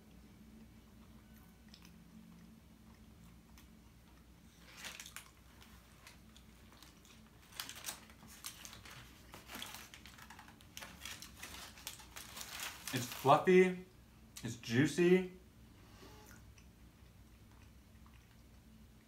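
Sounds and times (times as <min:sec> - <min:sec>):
chewing a sandwich: 0:00.0 - 0:13.0, 0:16.2 - 0:19.0.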